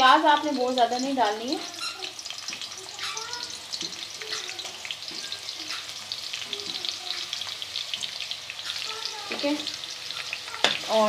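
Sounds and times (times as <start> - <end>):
onion sizzling in hot fat: 0.0 - 11.0.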